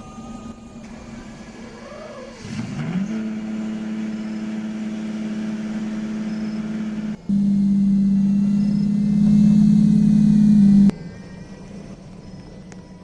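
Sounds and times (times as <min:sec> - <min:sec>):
engine speeding up: 0:00.0 - 0:10.9.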